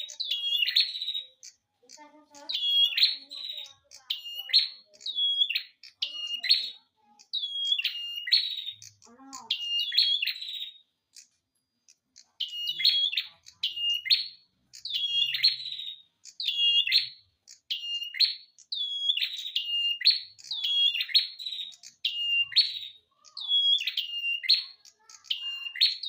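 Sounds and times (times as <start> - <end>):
songbird singing whistled phrase: 0.0 - 1.7, 2.3 - 11.3, 12.2 - 26.0.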